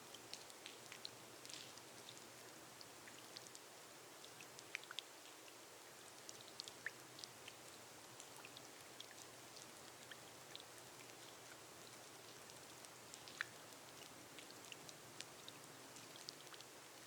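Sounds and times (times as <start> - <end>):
light rain on glass roof: 0.0 - 17.0.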